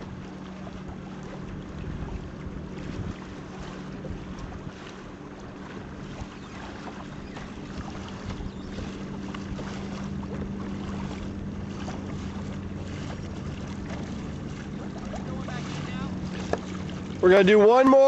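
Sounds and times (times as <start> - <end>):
boat motor humming: 0.0 - 18.0
choppy water splashing: 0.0 - 18.0
wind buffeting microphone: 0.0 - 18.0.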